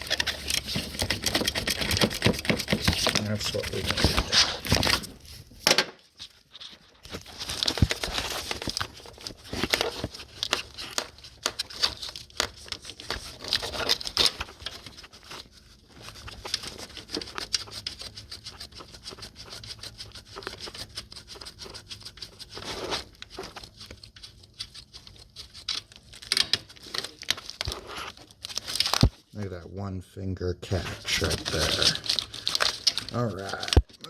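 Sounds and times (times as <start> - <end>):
scraping and rustling: 0.0 - 29.3, 30.7 - 33.9.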